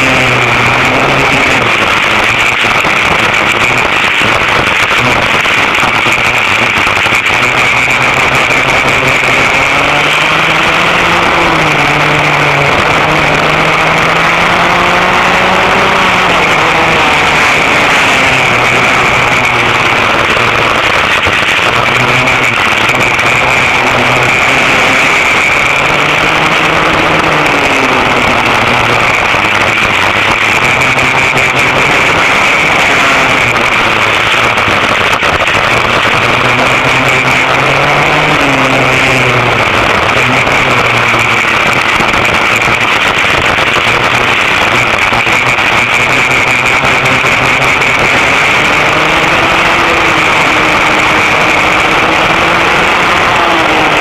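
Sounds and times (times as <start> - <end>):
go-kart engines revving: 0.0 - 54.0.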